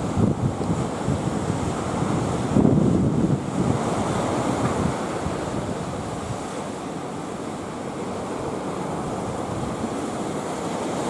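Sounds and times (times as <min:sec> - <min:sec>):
sea surf rushing: 0:00.0 - 0:11.0
wind on microphone: 0:00.0 - 0:11.0.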